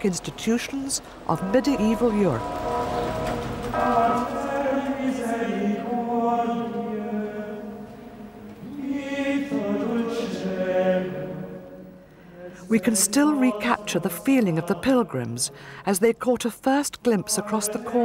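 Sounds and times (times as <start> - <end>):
voices singing chant: 0.0 - 15.6, 17.1 - 18.0.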